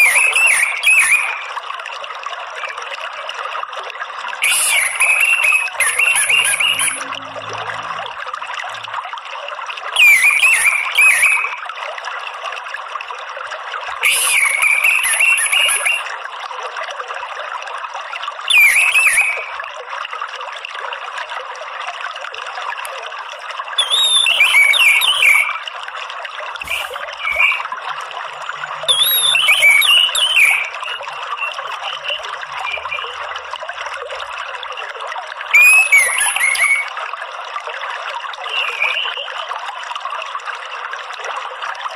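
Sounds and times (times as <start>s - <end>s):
running water: 0.0s - 41.9s.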